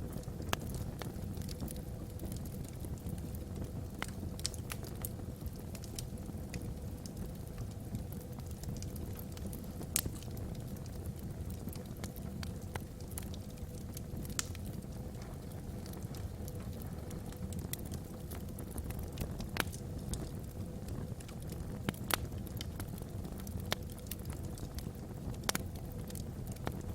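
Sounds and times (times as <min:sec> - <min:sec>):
logs crackling and popping: 0:00.0 - 0:26.9
low rumble of fire: 0:00.0 - 0:26.9.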